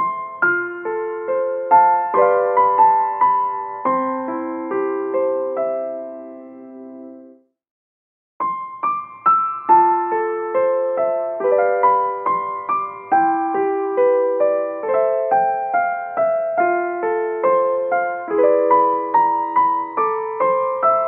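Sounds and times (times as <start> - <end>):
solo piano music: 0.0 - 7.5, 8.4 - 21.0.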